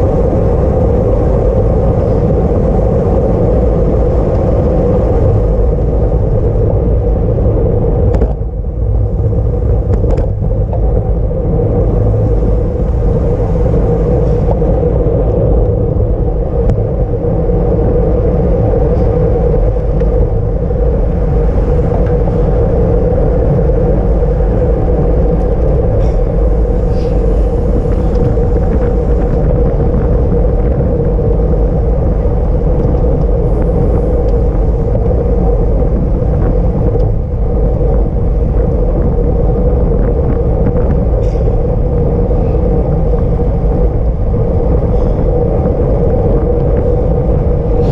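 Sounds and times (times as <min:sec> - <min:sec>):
constant hum: 0:00.0 - 0:47.9
wind rumble on microphone: 0:00.0 - 0:47.9.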